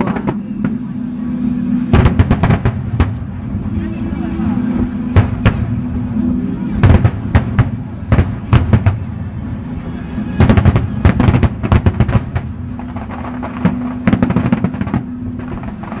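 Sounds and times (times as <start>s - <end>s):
fireworks bursting: 0.0s - 3.8s, 4.6s - 16.0s.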